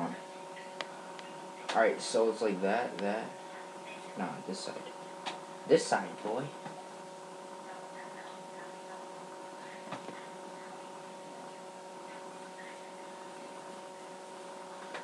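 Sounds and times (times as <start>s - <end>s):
electrical hum with fixed tones: 0.0s - 15.0s.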